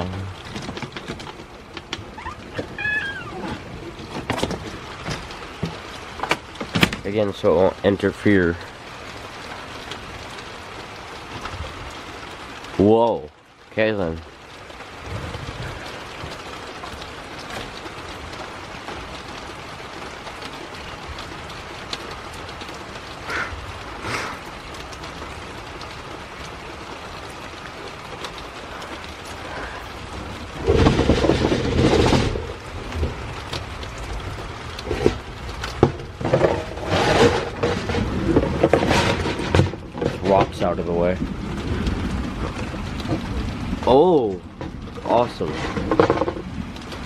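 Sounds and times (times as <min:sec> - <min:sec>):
thunder rumbling: 0:00.0 - 0:12.8, 0:20.7 - 0:47.0
steady rain falling: 0:00.0 - 0:47.0.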